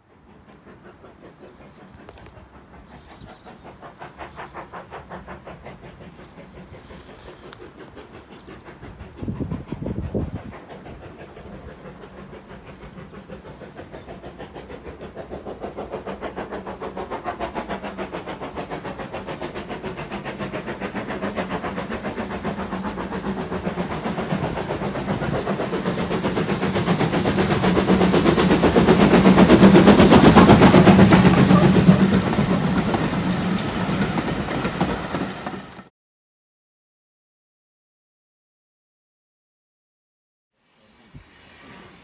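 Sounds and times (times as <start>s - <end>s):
steam locomotive exhaust beats: 0.0s - 35.9s.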